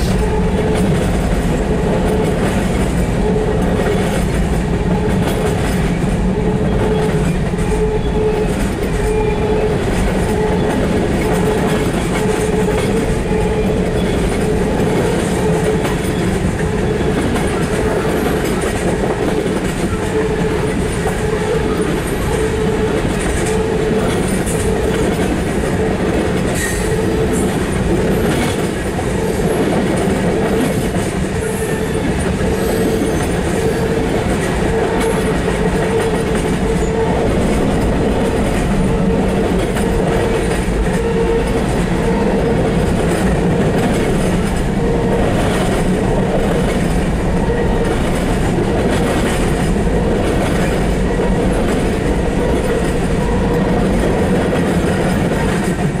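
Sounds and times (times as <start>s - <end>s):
clickety-clack of rail joints: 0.0s - 56.0s
train wheels rumbling on rail: 0.0s - 56.0s.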